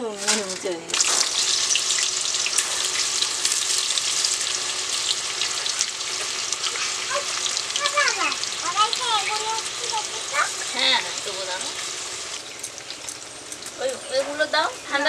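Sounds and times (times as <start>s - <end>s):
banana slices sizzling in hot oil: 0.0s - 15.0s.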